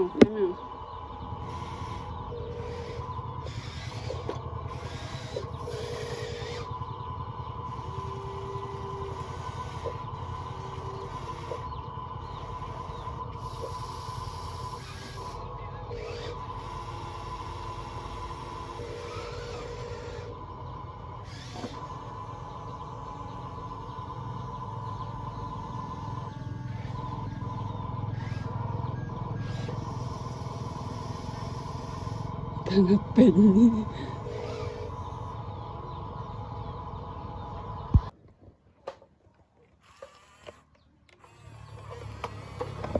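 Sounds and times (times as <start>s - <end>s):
small electric motors whining: 0.0s - 38.2s, 39.6s - 42.9s.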